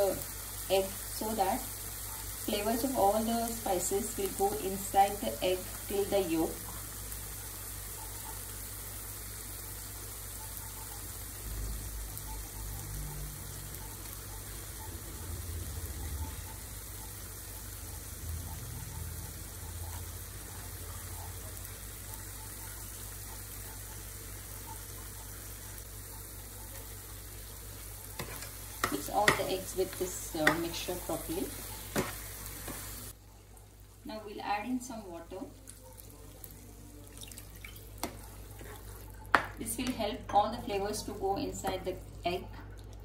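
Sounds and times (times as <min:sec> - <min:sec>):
sauce sizzling in a pan: 0:00.0 - 0:43.0.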